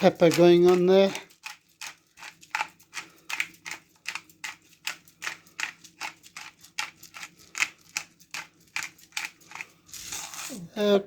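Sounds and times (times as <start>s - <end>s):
pepper grinder rasping: 0.0s - 11.0s.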